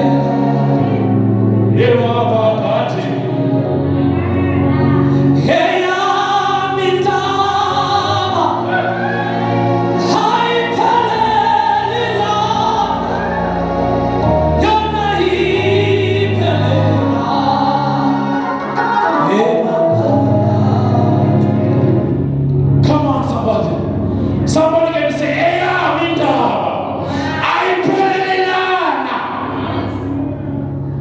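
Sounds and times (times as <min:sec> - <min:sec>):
congregation singing gospel song: 0:00.0 - 0:31.0.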